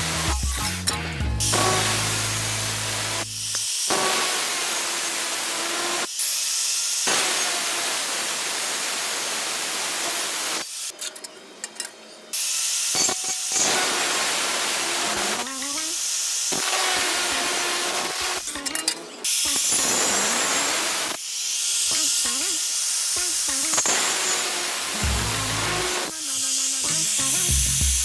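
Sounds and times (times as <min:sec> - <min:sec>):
welding arc sizzling and crackling: 0:01.4 - 0:11.2, 0:12.4 - 0:28.0.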